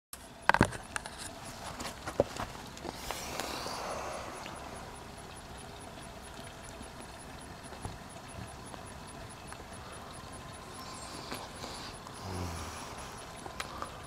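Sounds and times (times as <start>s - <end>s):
faint high ticking: 2.7s - 14.0s.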